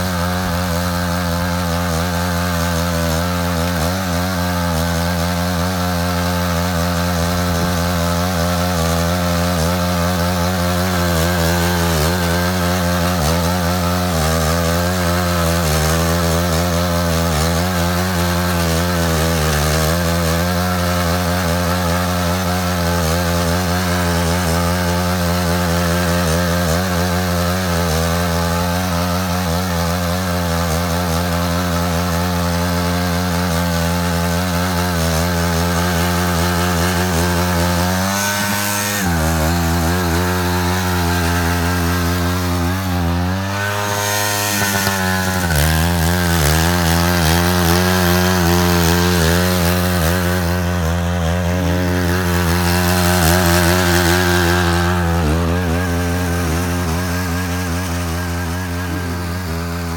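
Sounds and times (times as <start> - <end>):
power tiller engine under load: 0.0 - 59.9.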